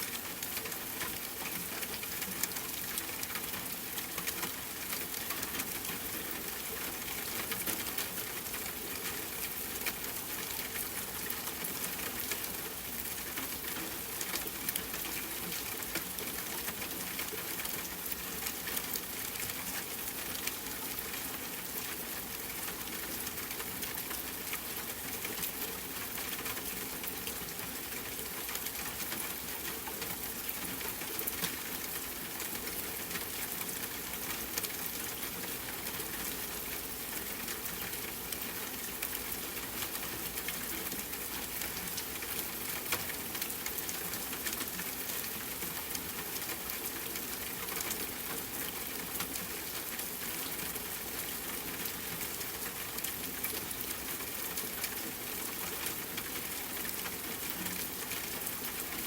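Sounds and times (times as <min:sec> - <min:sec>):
rain falling on a tent: 0:00.0 - 0:59.0.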